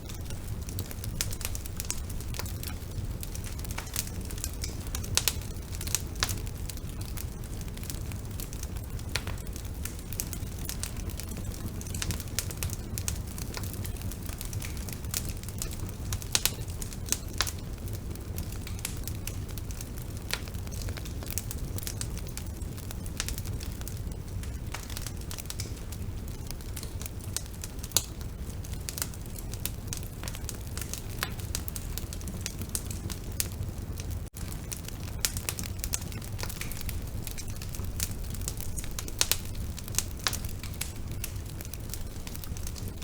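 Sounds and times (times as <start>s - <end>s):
bonfire rumble: 0.0s - 43.0s
burning wood crackling and popping: 0.0s - 43.0s.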